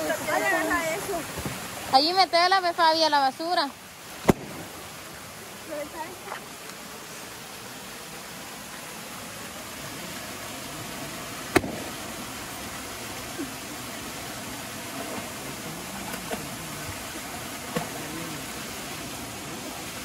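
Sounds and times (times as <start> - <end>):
waterfall pouring into pool: 0.0 - 20.0.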